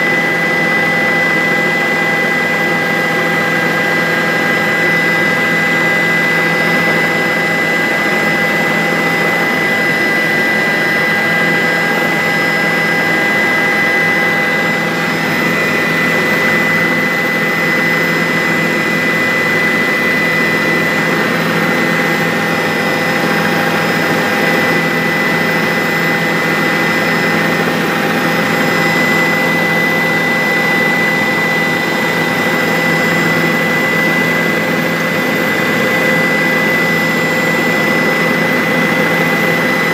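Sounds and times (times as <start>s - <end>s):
rotor and engine roar: 0.0s - 39.9s
turbine whine: 0.0s - 39.9s.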